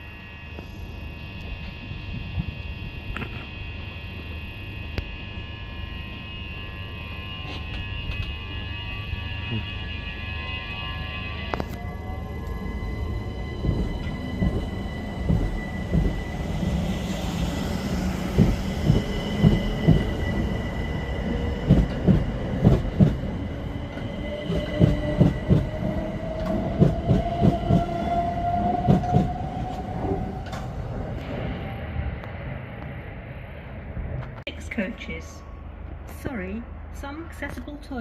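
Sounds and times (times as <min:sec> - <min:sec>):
train motor whine: 0:00.0 - 0:33.2.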